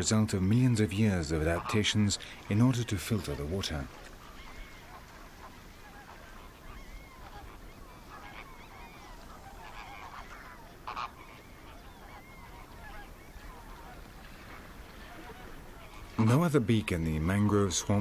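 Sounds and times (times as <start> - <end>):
flamingos calling: 0.0 - 18.0.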